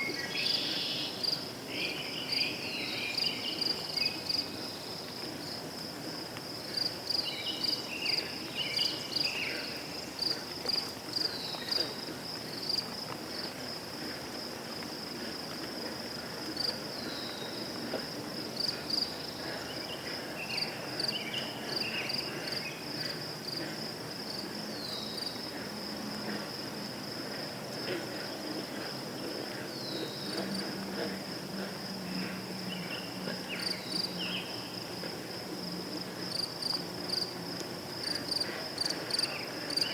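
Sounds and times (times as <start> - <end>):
crickets trilling: 0.0 - 39.9
scratchy insect calls: 0.0 - 39.9.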